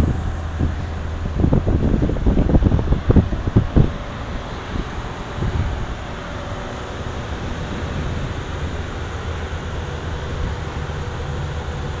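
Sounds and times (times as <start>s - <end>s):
drilling rig engine rumble: 0.0s - 12.0s.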